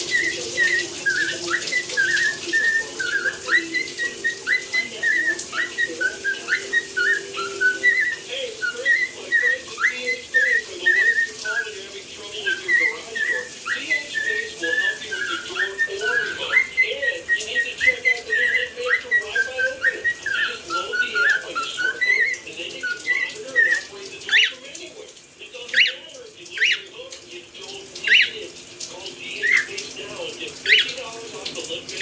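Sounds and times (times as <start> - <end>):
cockatiel chirping and warbling: 0.0 - 24.7, 25.7 - 27.0, 28.0 - 28.4, 30.6 - 31.1
shower running: 0.0 - 32.0.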